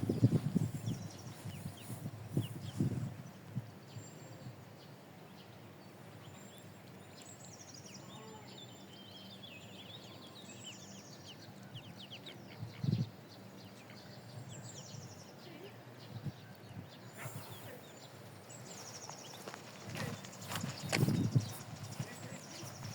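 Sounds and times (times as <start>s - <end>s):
low outdoor background noise: 0.0s - 22.9s
small birds chirping: 0.0s - 22.9s.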